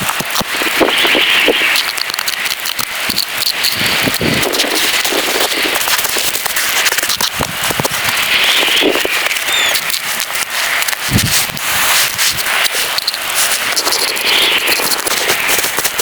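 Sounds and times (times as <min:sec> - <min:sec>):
rain and snow pattering on a tent: 0:00.0 - 0:16.0.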